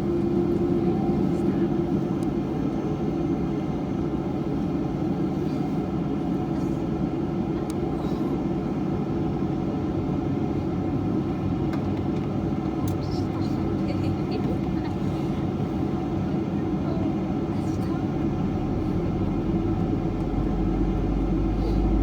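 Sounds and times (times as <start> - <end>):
airplane cabin hum: 0.0 - 22.0.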